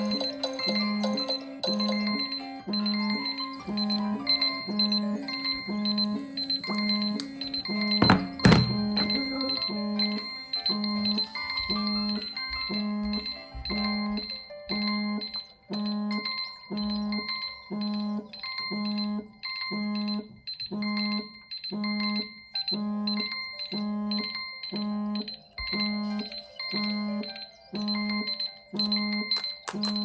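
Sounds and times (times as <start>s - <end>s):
phone alarm melody: 0.0s - 30.0s.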